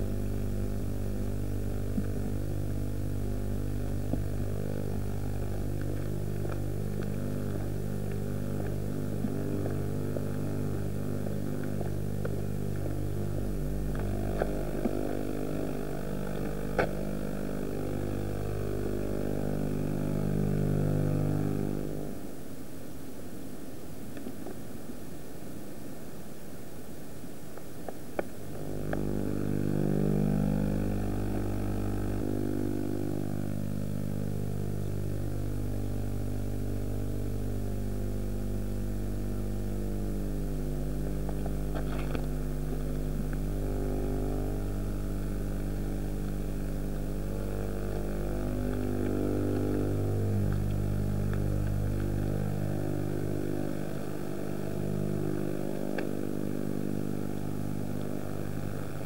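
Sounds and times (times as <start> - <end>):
vehicle engine running: 0.0 - 22.2, 28.5 - 59.0.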